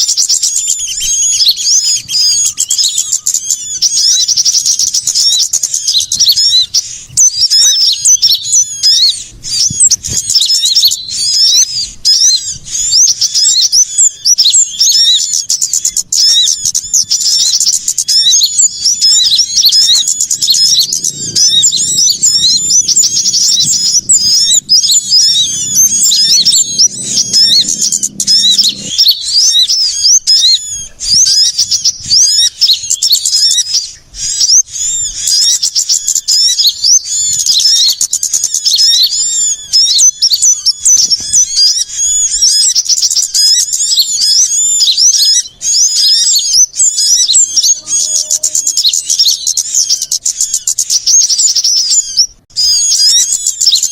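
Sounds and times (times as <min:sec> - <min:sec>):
small songbirds chirping: 0:00.0 - 0:53.9.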